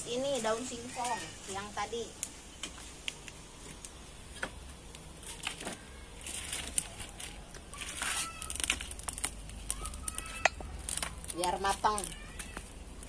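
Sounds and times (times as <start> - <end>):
fire crackling: 0.0 - 13.0
firewood sticks shifted in fire: 2.2 - 13.0.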